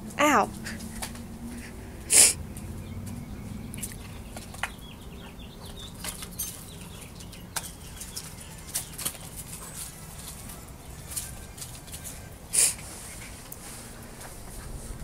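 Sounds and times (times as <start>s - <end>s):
gravel crunching and clicking: 0.0s - 12.4s.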